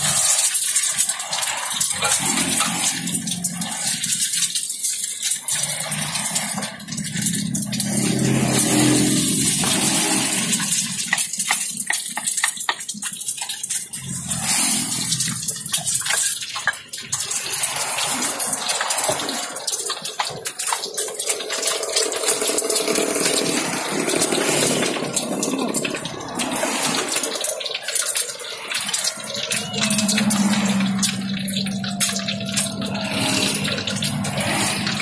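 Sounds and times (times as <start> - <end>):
oil sizzling with crackles: 0.0 - 35.0.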